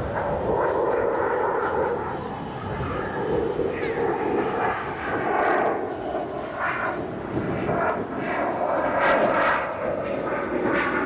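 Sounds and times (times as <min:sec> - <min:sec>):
airplane engine in flight: 0:00.0 - 0:11.0.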